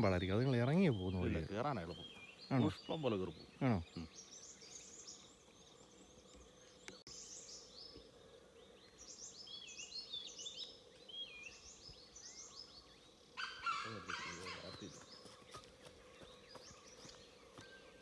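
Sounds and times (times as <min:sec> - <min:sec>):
faint forest birdsong: 0:00.0 - 0:18.0.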